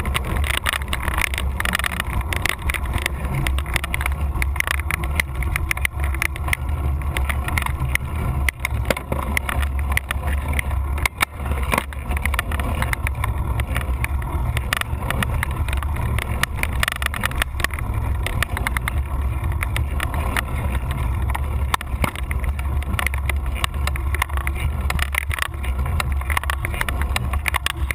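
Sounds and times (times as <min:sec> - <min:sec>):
bike and mount rattling: 0:00.0 - 0:27.9.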